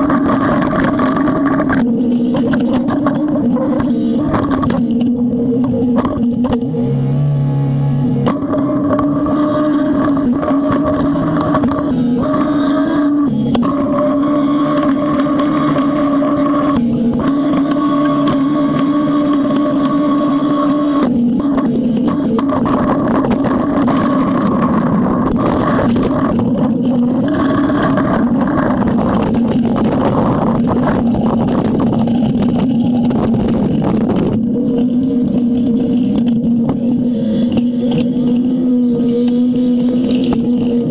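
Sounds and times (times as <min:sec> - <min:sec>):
blade pushing snow: 0:00.0 - 0:40.9
diesel engine running: 0:00.0 - 0:40.9
lower steady tone: 0:00.0 - 0:40.9.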